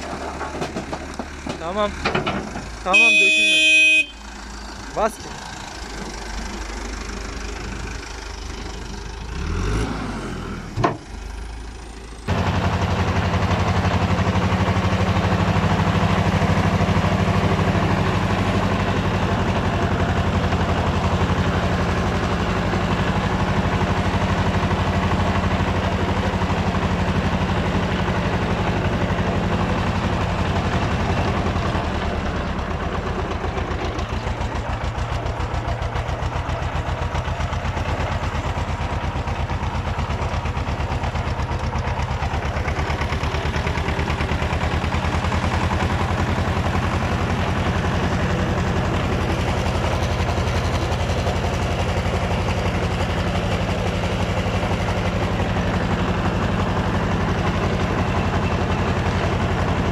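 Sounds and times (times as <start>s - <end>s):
engine idling: 0.0s - 9.8s, 10.7s - 59.9s
tractor engine running under load: 0.0s - 59.9s.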